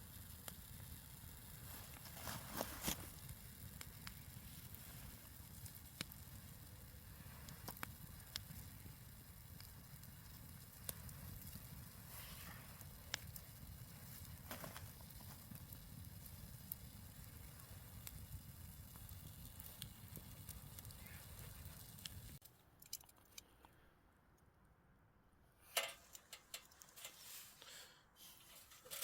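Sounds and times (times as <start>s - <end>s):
campfire crackling and popping: 0.0s - 22.9s, 25.8s - 27.3s, 28.4s - 29.0s.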